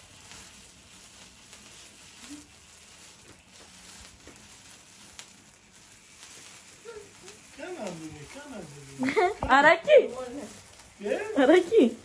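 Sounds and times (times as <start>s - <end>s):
sparkler crackles: 0.0s - 12.0s
sparkler hissing: 0.0s - 12.0s.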